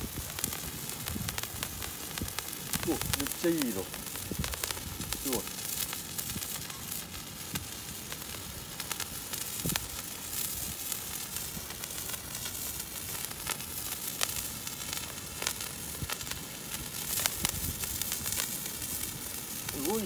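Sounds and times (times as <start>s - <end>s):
hiss of spraying sparks: 0.0s - 20.0s
sharp firework crackles: 0.0s - 20.0s.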